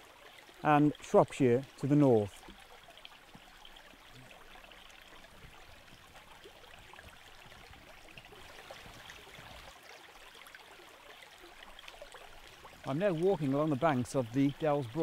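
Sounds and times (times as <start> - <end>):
brook gurgling over stones: 0.0 - 15.0.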